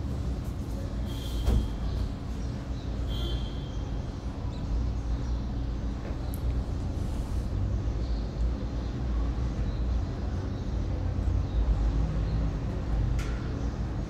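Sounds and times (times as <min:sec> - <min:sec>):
low rumbling traffic noise: 0:00.0 - 0:14.0.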